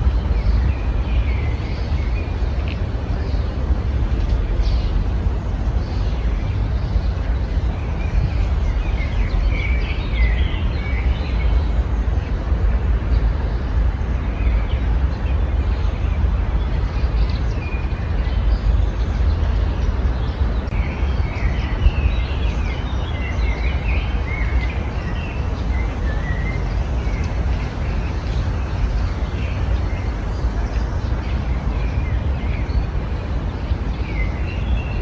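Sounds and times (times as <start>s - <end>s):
songbirds chirping and twittering: 0.0s - 35.0s.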